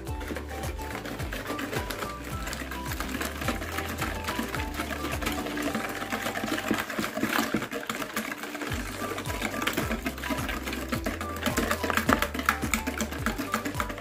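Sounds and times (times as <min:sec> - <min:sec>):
wire whisk rattling in bowl: 0:00.0 - 0:14.0.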